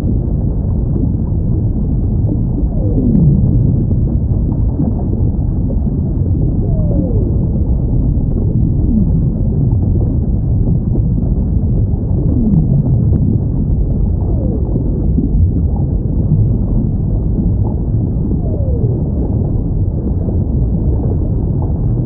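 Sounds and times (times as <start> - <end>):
deep underwater rumble: 0.0 - 22.0.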